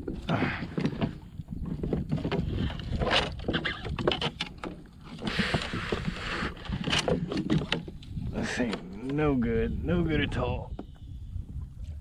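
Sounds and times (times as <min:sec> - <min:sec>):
wind on microphone: 0:00.0 - 0:04.4, 0:05.1 - 0:12.0.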